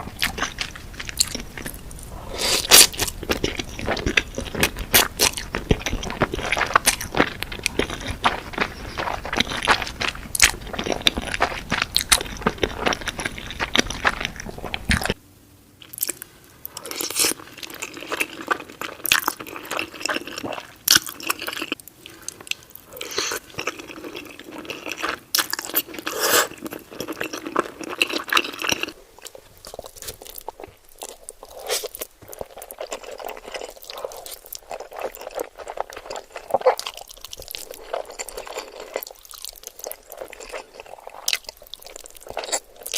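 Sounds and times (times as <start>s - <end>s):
person chewing spaghetti: 0.0s - 15.2s, 15.8s - 42.9s.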